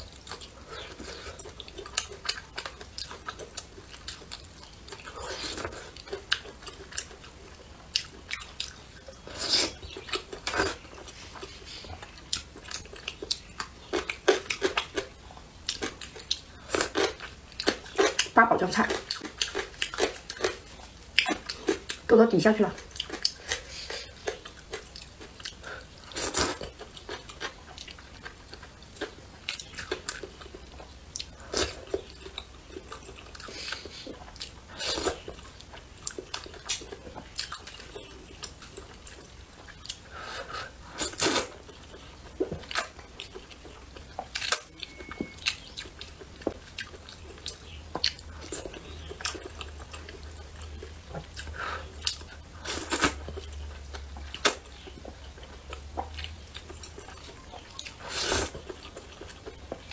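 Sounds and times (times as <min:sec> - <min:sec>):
wet chewing and mouth clicks: 0:00.0 - 0:22.1, 0:22.8 - 0:59.9.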